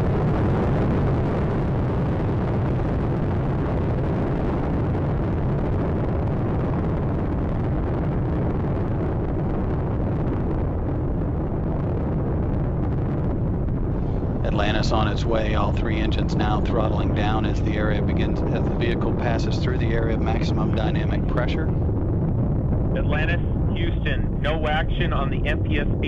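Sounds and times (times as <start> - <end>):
rocket engines roaring: 0.0 - 26.0.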